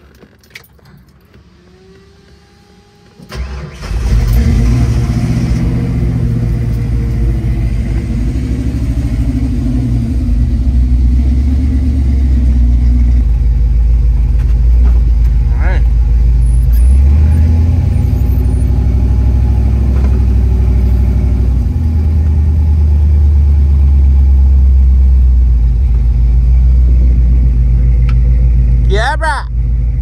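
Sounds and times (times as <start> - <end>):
car engine cranking: 0.0 - 28.9
car engine revving and idling: 0.0 - 30.0.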